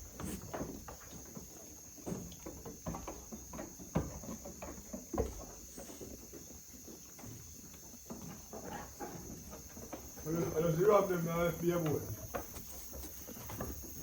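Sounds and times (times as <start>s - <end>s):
crickets chirring: 0.0s - 14.0s
soft knocks and rustles: 0.0s - 14.0s.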